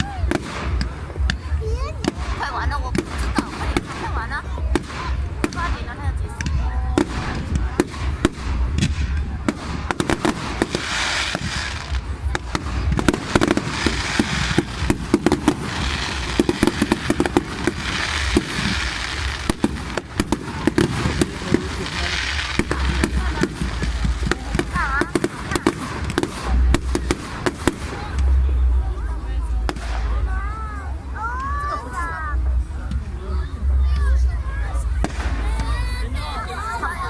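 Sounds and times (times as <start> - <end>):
fireworks bangs: 0.0 - 28.9, 29.5 - 30.5, 34.8 - 36.8
fireworks crackling: 0.0 - 37.0.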